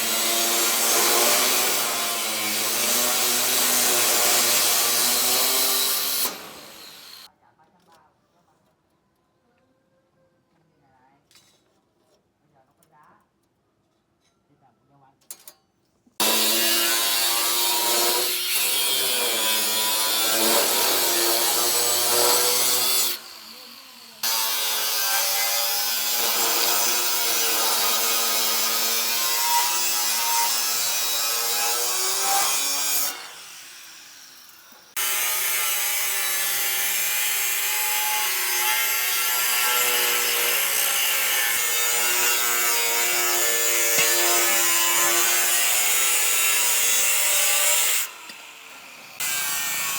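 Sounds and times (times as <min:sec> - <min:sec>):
power tool grinding: 0:00.0 - 0:07.3, 0:16.2 - 0:49.9.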